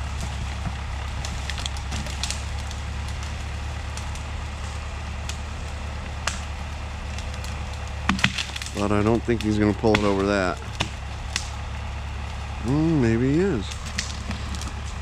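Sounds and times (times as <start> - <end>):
tractor engine running: 0.0 - 15.0
brush and wood snapping: 0.1 - 11.7, 13.4 - 15.0.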